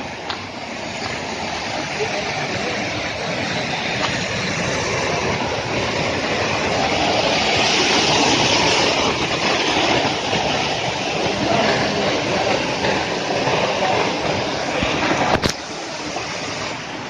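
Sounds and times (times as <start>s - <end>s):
steady rushing rumble: 0.0s - 17.0s.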